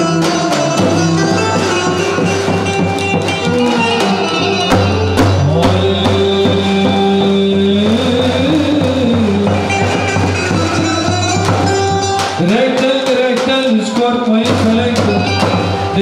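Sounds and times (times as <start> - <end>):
bass drum beating: 0.0 - 16.0
sliding held melody: 0.0 - 16.0.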